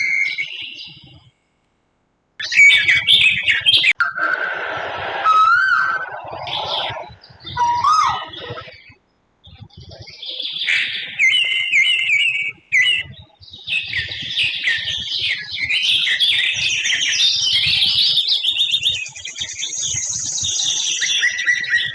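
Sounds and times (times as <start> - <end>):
birds chirping and trilling: 0.0 - 1.3, 2.4 - 4.0, 5.2 - 21.9.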